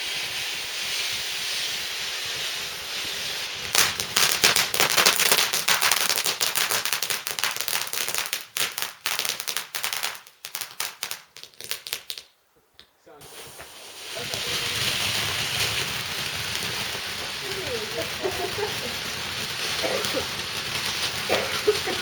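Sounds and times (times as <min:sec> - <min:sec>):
firework crackling: 0:00.0 - 0:12.4, 0:13.2 - 0:22.0
steady hiss: 0:00.0 - 0:22.0.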